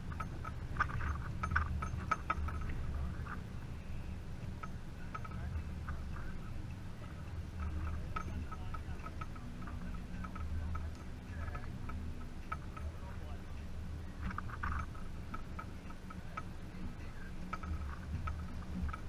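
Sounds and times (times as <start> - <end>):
light clicks and ticks: 0.0 - 3.8, 4.4 - 19.0
low steady rumble: 0.0 - 19.0.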